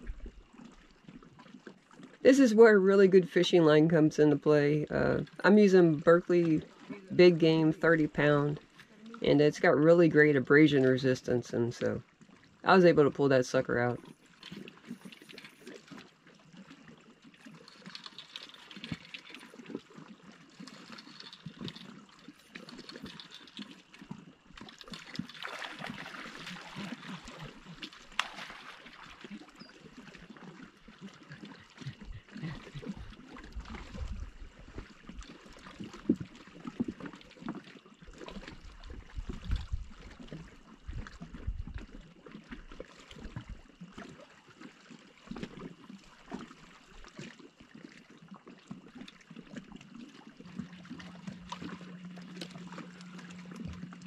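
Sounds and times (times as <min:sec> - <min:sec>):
small splashes: 0:00.0 - 0:54.0
water lapping on rocky shore: 0:00.0 - 0:54.0.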